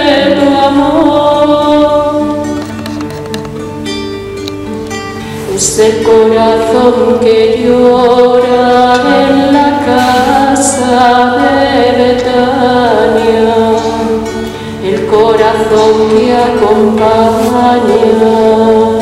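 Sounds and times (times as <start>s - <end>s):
person singing a hymn: 0.0s - 3.0s, 5.4s - 19.0s
acoustic guitar: 0.0s - 19.0s.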